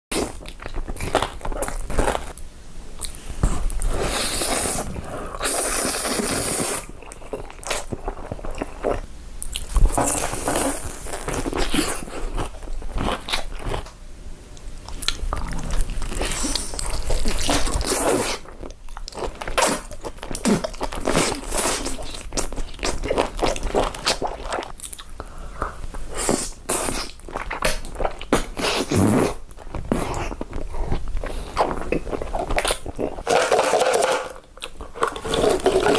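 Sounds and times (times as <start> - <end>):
ice being chewed: 3.0 - 14.0, 14.9 - 25.1, 25.9 - 35.9.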